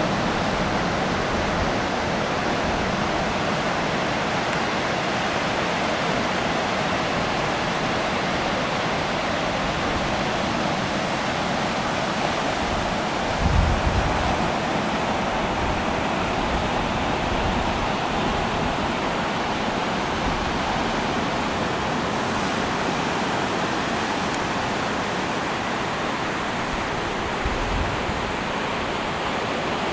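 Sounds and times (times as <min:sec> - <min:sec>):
surf washing onto beach: 0:00.0 - 0:29.9.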